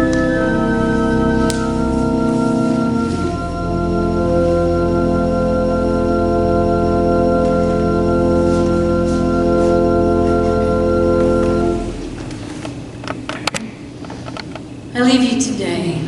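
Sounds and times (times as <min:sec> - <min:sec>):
organ chord: 0:00.0 - 0:13.0.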